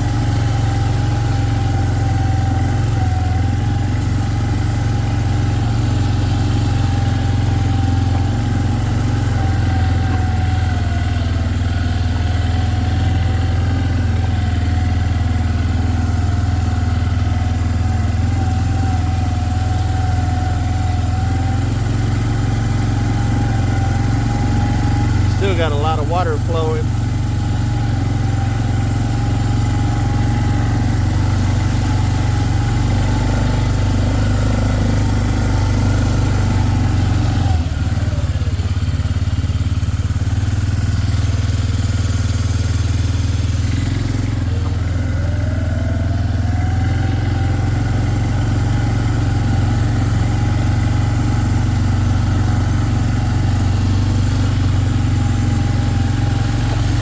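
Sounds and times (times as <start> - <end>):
small vehicle engine running: 0.0 - 57.0.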